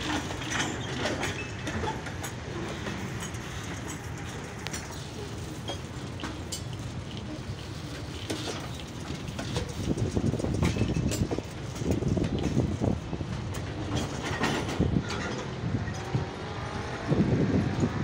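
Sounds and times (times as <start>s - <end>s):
clicks and clanks: 0.0s - 16.2s
train wheels rumbling on rail: 0.0s - 18.0s.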